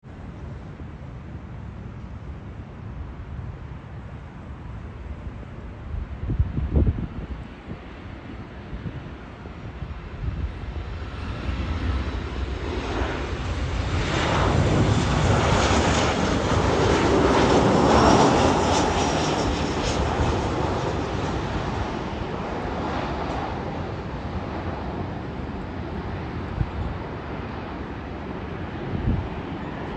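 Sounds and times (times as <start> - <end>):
jet airliner passing: 2.0 - 29.9.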